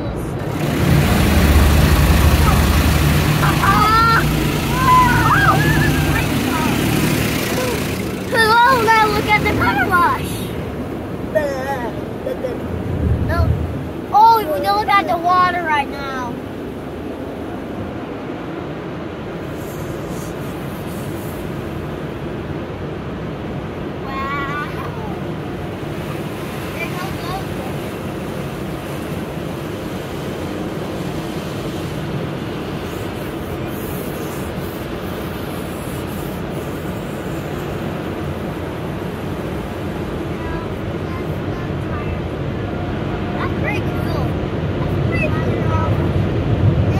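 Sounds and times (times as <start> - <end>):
car wash equipment rumble: 0.0 - 46.9
water spraying onto car: 0.2 - 46.9.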